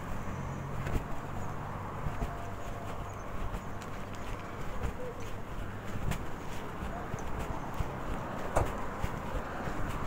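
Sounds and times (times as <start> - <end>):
distant traffic hum: 0.0 - 10.0
footsteps on dirt: 0.0 - 10.0
wind on microphone: 0.1 - 10.0.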